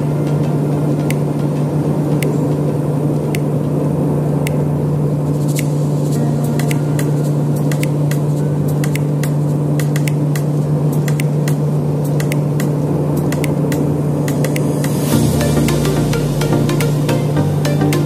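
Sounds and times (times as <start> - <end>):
propeller engine drone in cabin: 0.0 - 18.0.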